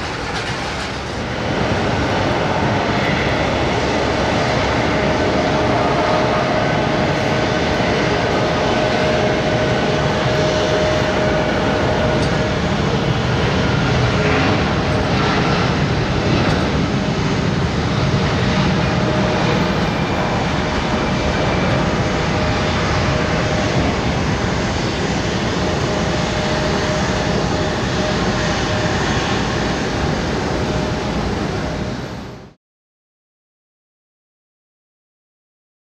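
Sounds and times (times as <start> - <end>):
high engine whine: 0.0 - 32.6
jet engines at takeoff thrust: 0.0 - 32.6.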